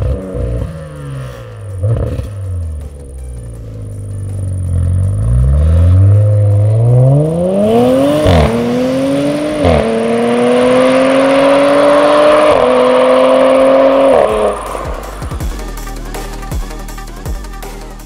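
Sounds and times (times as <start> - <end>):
car engine accelerating hard: 0.0 - 3.0, 3.6 - 15.4.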